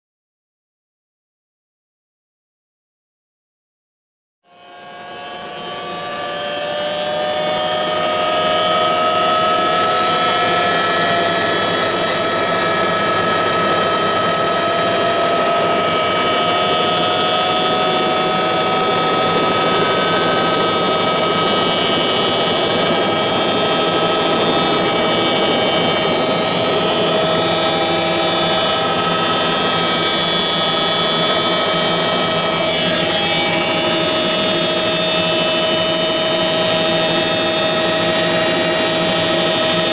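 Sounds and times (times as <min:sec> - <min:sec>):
helicopter engine and rotor: 0:04.5 - 0:39.9.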